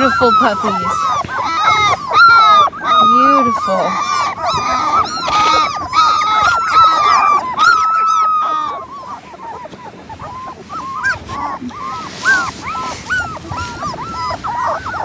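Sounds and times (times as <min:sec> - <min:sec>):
puppies whimpering and crying: 0:00.0 - 0:15.0.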